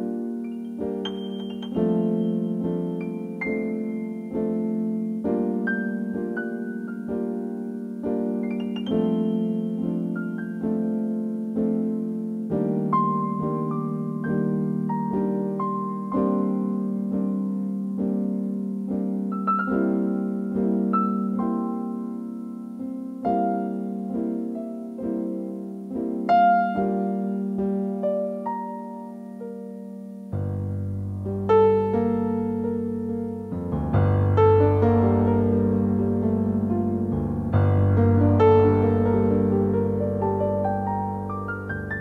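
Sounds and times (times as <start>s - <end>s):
solo piano music: 0.0s - 42.0s.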